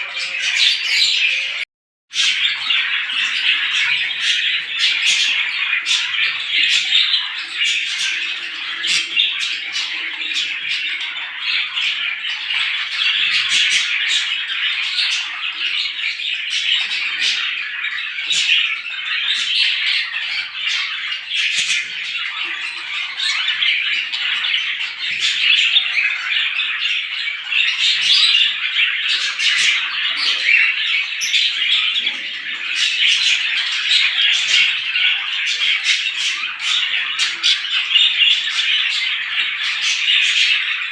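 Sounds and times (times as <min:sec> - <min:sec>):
flock of small birds chirping: 0:00.0 - 0:40.9.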